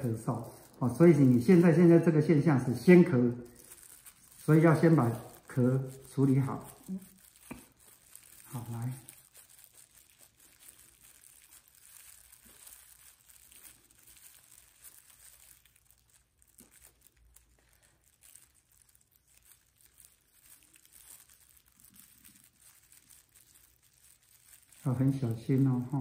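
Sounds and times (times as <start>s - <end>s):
faint room hiss: 0.0s - 26.0s.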